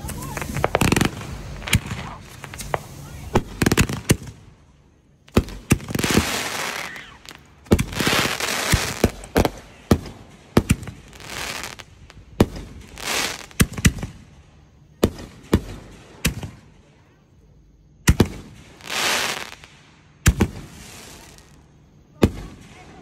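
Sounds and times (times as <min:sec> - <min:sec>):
fireworks bangs: 0:00.0 - 0:16.7, 0:18.0 - 0:23.0
fireworks crackling hiss: 0:00.0 - 0:23.0.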